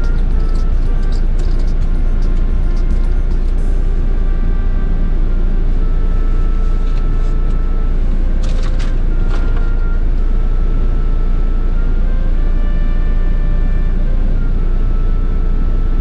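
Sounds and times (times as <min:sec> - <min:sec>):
car engine rumble and road noise: 0:00.0 - 0:16.0.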